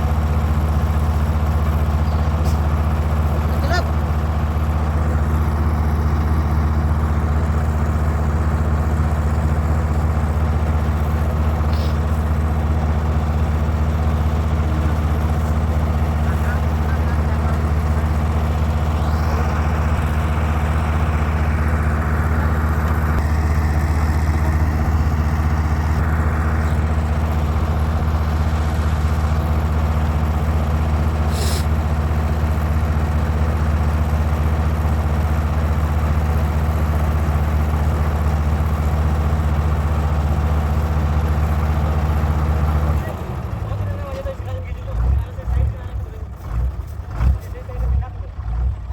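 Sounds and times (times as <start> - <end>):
tractor engine idling: 0.0 - 48.9.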